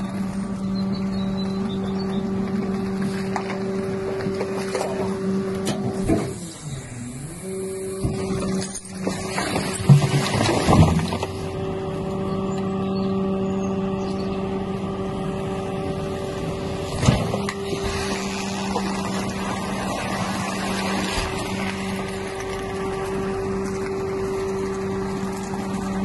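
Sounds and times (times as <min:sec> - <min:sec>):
load crunching: 0:00.0 - 0:06.8, 0:07.9 - 0:12.7, 0:15.7 - 0:26.0
hydraulic pump and engine drone: 0:00.0 - 0:26.0.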